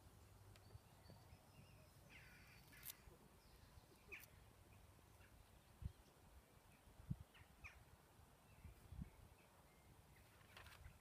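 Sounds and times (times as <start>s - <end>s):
distant bird calls: 0.0s - 11.0s.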